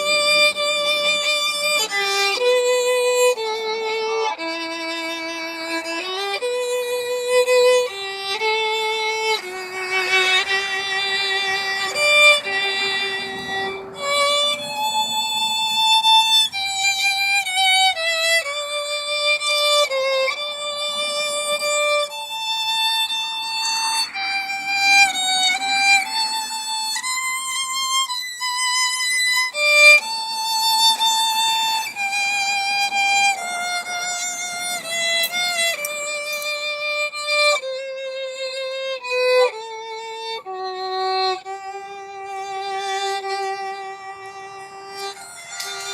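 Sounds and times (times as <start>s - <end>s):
solo violin melody: 0.0s - 45.9s.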